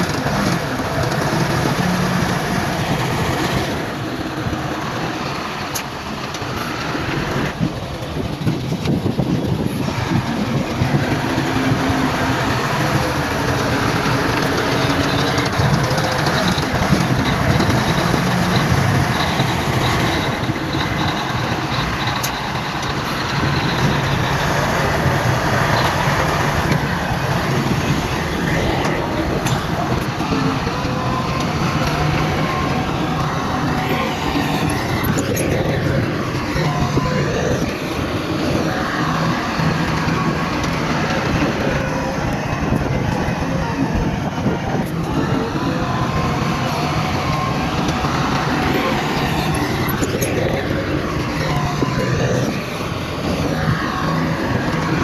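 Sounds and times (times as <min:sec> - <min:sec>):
heavy diesel machinery rumbling: 0:00.0 - 0:55.0.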